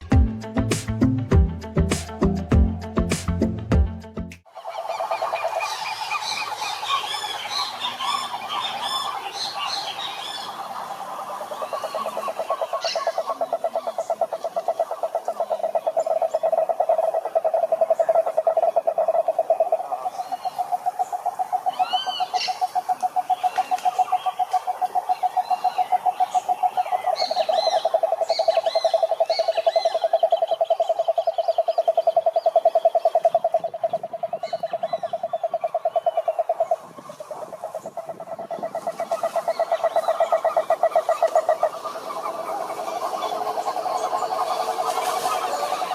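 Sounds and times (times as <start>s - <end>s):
frogs trilling: 4.5s - 45.9s.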